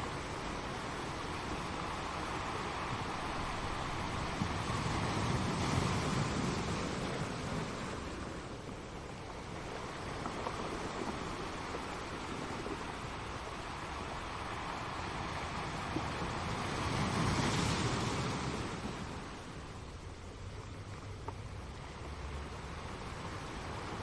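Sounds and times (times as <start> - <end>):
ocean waves washing on shore: 0.0 - 24.0.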